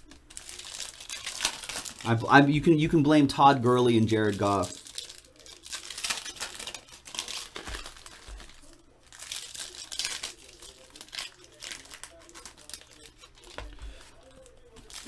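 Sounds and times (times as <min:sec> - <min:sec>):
foil card pack crinkling and tearing: 0:00.0 - 0:02.5, 0:03.9 - 0:15.0.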